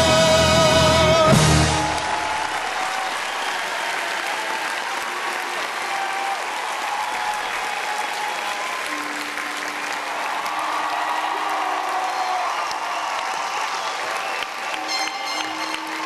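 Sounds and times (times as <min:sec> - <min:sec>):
audience applauding: 0:00.8 - 0:16.0
faint cheers: 0:01.1 - 0:16.0.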